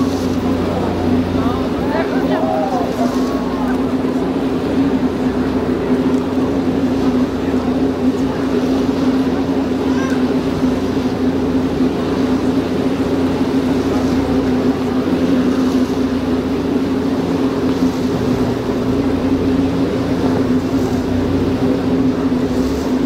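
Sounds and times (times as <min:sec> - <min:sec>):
boat engine hum: 0:00.0 - 0:23.0
water noise: 0:00.0 - 0:23.0
wind: 0:00.0 - 0:23.0.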